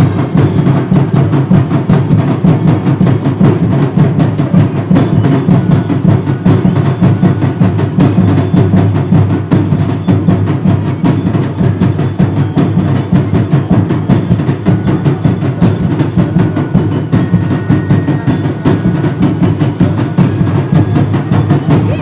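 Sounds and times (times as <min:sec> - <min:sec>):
snare and bass drums playing: 0:00.0 - 0:22.0.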